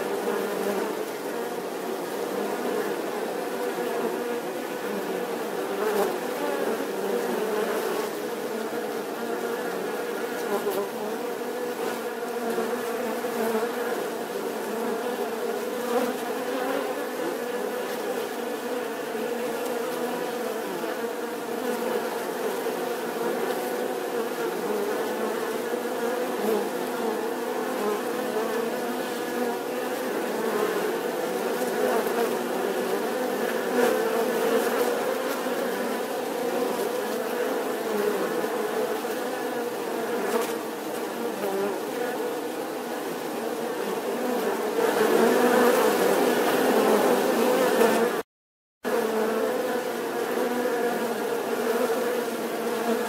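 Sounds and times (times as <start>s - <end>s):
bees buzzing: 0.0s - 48.2s, 48.9s - 53.0s.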